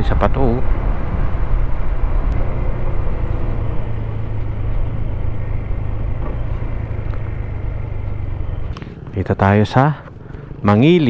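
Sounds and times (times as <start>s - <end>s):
wind and road noise: 0.0s - 11.0s
scooter engine running: 0.6s - 11.0s.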